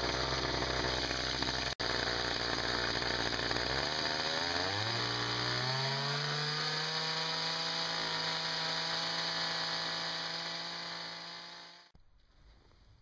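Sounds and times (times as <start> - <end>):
two-stroke engine at high revs: 0.0 - 11.9.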